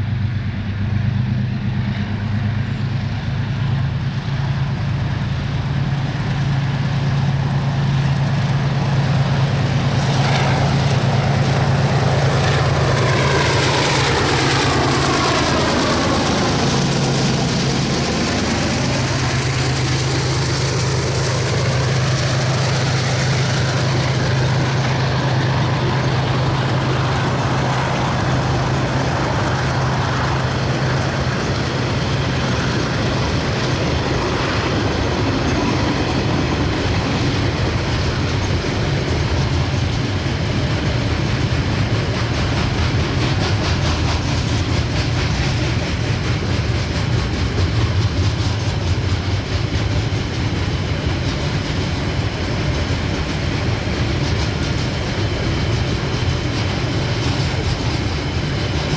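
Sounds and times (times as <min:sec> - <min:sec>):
diesel locomotive passing: 0:00.0 - 0:58.9.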